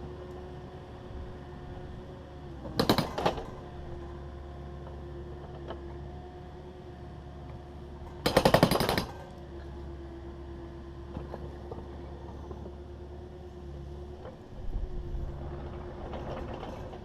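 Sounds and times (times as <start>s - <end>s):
excavator running: 0.0s - 17.0s.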